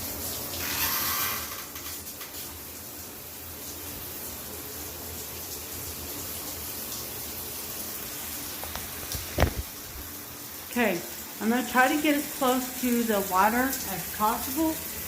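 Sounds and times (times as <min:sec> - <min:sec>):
shower water spraying: 0:00.0 - 0:15.0.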